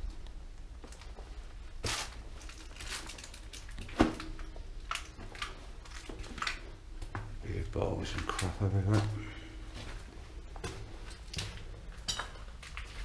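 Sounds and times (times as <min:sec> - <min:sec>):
footsteps crunching over debris: 0:00.0 - 0:13.0.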